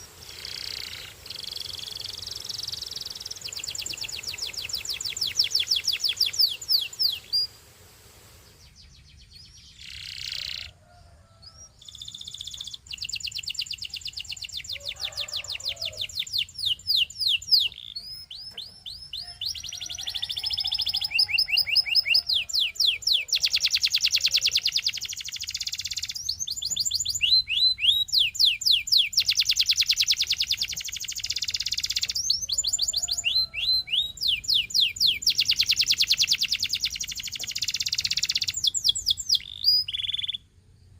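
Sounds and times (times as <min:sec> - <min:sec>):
canary singing trills: 0:00.0 - 0:07.6, 0:08.4 - 0:40.6.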